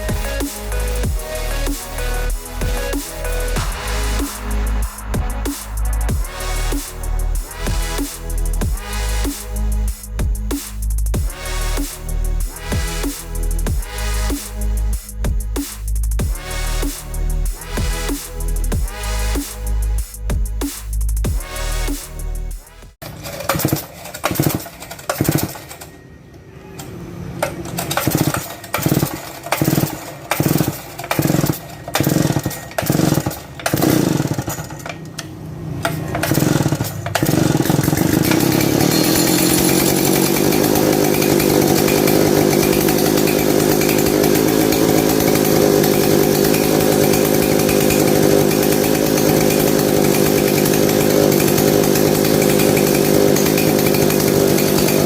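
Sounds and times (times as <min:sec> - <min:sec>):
chainsaw engine revving: 0:00.0 - 0:20.8, 0:23.1 - 0:25.7, 0:27.8 - 0:34.9, 0:35.6 - 0:55.0.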